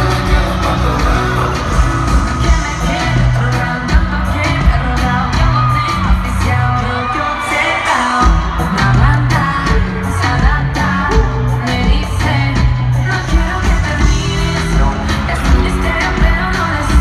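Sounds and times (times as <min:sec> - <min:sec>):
heavy bass beat: 0:00.0 - 0:06.8, 0:08.2 - 0:17.0
person singing: 0:00.0 - 0:17.0.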